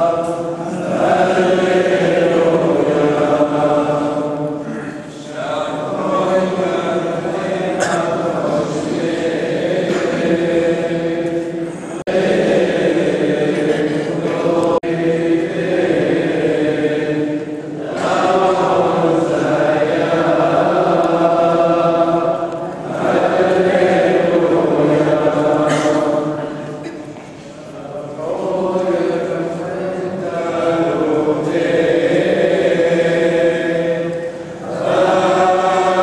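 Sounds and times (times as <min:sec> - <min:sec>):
voices chanting together: 0:00.0 - 0:36.0.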